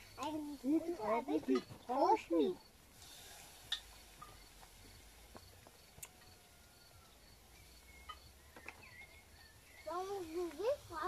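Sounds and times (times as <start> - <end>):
faint insect chirping: 0.0 - 11.0.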